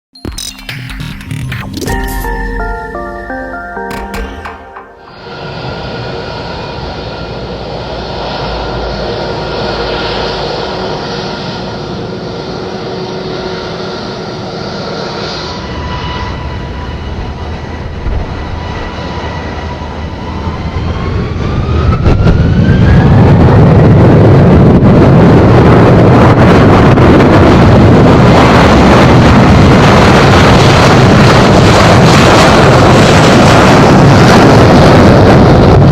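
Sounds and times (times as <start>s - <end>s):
jet engines whining: 5.1s - 35.9s.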